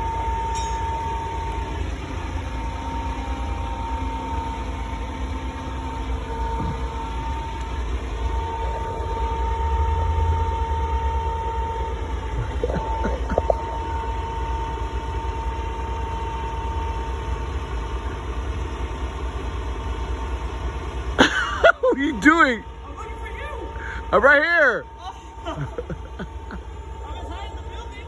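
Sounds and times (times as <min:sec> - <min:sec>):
heavy engine idling: 0:00.0 - 0:28.0
steady whine: 0:00.0 - 0:28.0.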